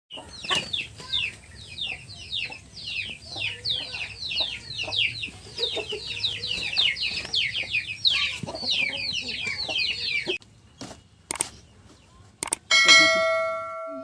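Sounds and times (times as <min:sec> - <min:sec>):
chicks peeping: 0:00.1 - 0:12.4.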